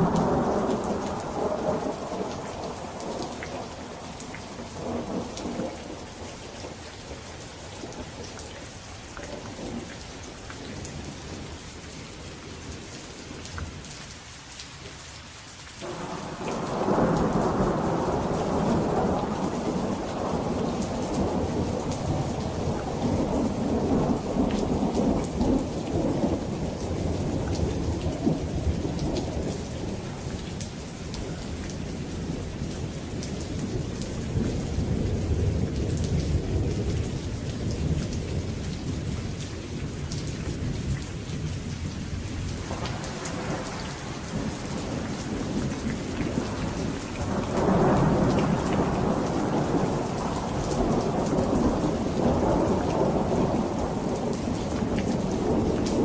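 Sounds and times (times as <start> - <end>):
rolling thunder: 0.0 - 7.2, 15.8 - 56.0
rain falling: 0.0 - 56.0.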